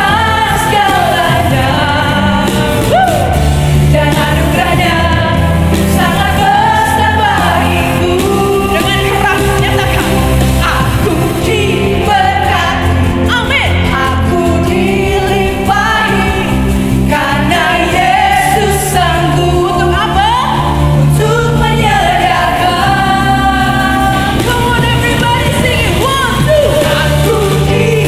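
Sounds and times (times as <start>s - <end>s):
praise band playing: 0.0s - 28.0s
voices singing together: 0.0s - 28.0s.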